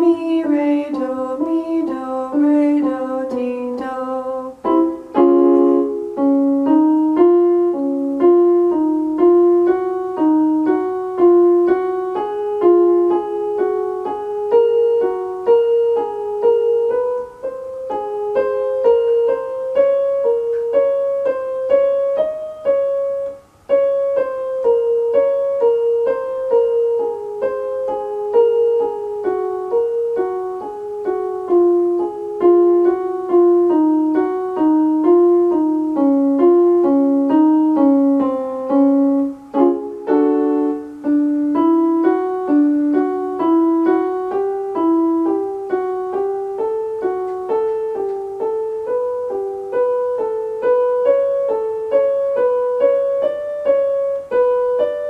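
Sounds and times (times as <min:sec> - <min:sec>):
electronic keyboard piano melody: 0:00.0 - 0:55.0.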